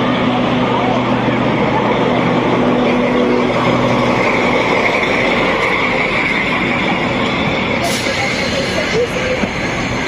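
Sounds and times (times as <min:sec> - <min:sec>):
diesel locomotive engine hum: 0:00.0 - 0:10.0
high-pitched whine: 0:00.0 - 0:10.0.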